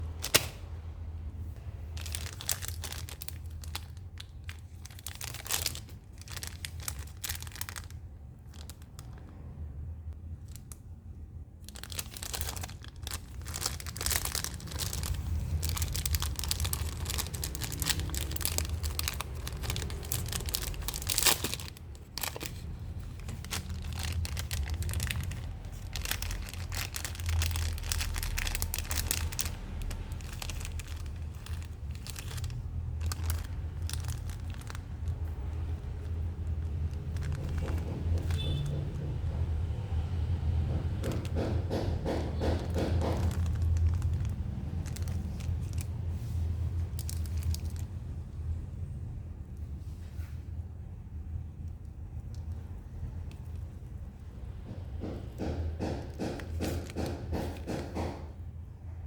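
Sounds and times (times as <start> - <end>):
plastic wrapper crinkling: 0.0 - 0.8, 1.4 - 9.4, 10.2 - 48.6, 51.7 - 58.1.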